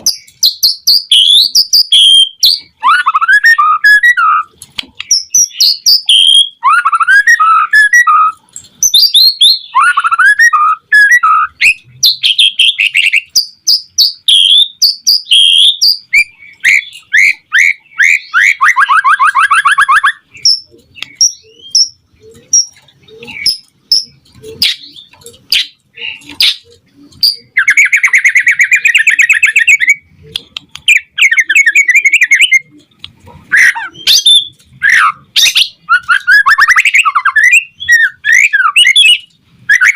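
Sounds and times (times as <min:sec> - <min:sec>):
songbird whistling and trilling: 0:00.0 - 0:30.0, 0:30.9 - 0:32.8, 0:33.5 - 0:39.9.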